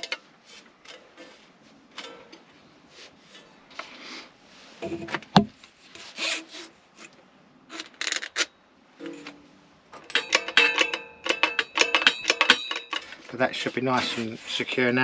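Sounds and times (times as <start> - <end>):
tools rubbing and scraping: 0.0 - 9.4, 10.1 - 15.0.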